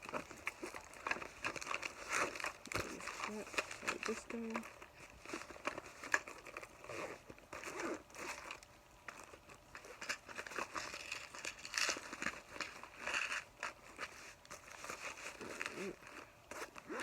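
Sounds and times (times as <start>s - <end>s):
bag crinkling and rustling: 0.0s - 17.0s.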